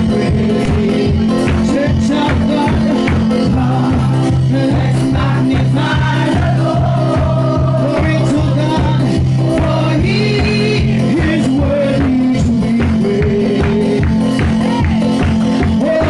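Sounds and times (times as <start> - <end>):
gospel worship music: 0.0 - 16.0.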